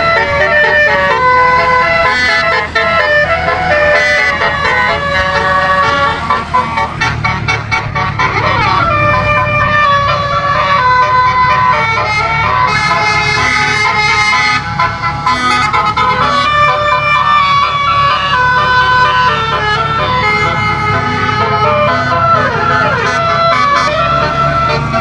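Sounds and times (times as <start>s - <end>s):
air horn melody: 0.0s - 25.0s.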